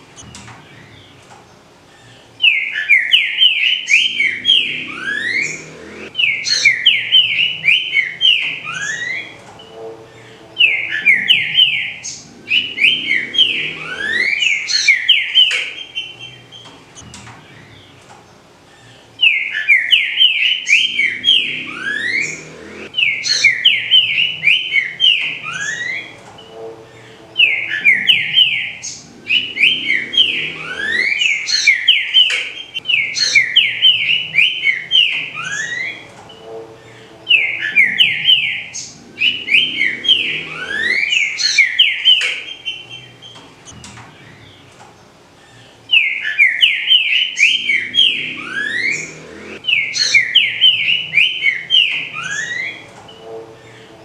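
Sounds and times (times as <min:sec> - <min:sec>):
bird singing whistled notes: 0:02.4 - 0:16.4, 0:19.2 - 0:43.8, 0:45.9 - 0:53.8.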